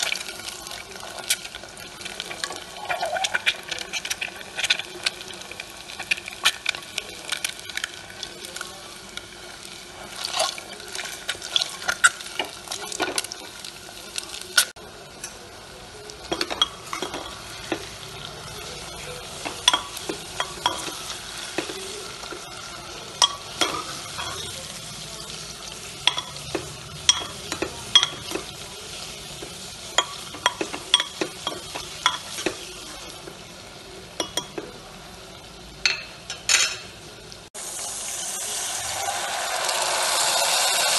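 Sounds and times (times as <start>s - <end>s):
food sizzling in hot oil: 0.0s - 40.9s.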